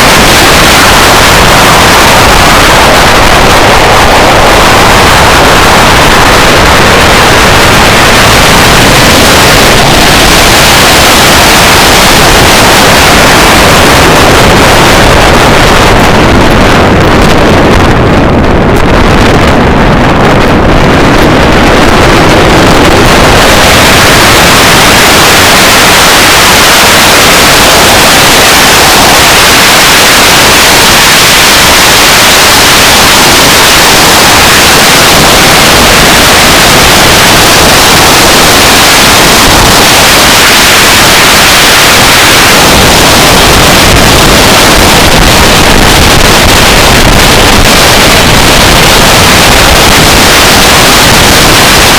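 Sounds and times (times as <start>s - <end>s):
wind noise from car at speed: 0.0s - 51.9s.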